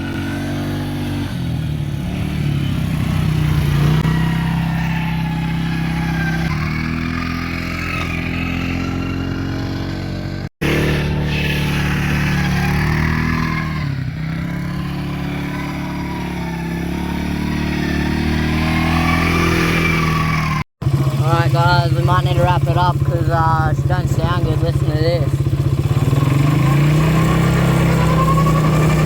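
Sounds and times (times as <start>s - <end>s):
quad bike engine revving: 0.0s - 29.0s.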